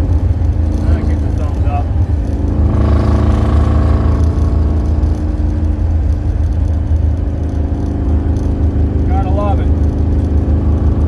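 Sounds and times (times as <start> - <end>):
car engine running while driving: 0.0 - 11.0.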